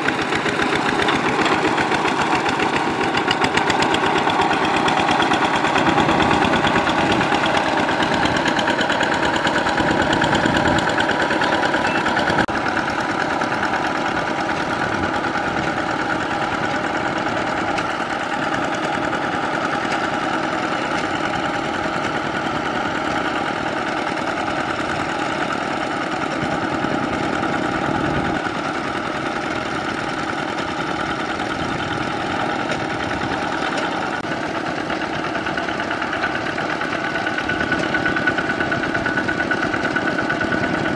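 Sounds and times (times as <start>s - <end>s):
diesel engine running: 0.0s - 40.9s
wheels driving through mud: 0.0s - 40.9s.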